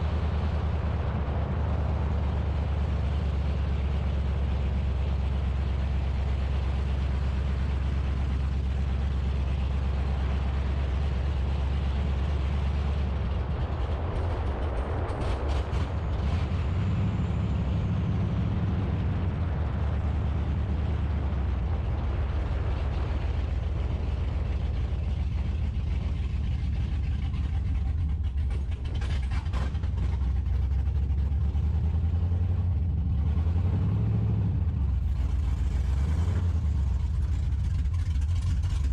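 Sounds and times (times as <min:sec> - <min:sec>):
car engine running roughly: 0:00.0 - 0:38.9.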